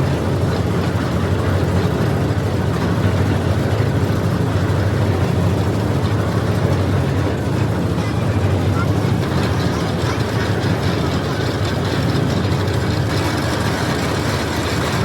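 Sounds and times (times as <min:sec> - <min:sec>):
drilling rig engine droning: 0:00.0 - 0:15.0.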